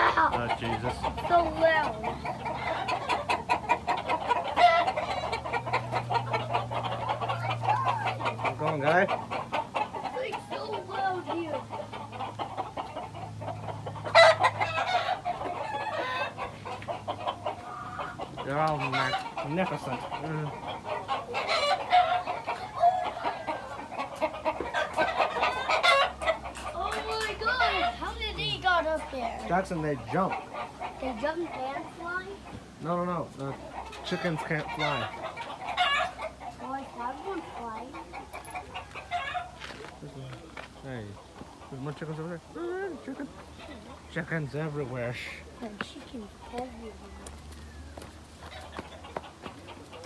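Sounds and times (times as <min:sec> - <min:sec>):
chicken squawking: 0:00.0 - 0:40.0, 0:40.7 - 0:50.0
chickens clucking: 0:00.0 - 0:50.0.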